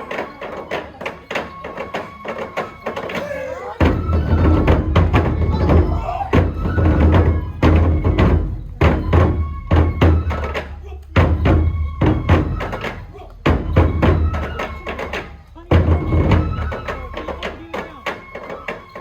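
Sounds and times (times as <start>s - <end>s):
taiko drum beat: 2.5s - 18.6s.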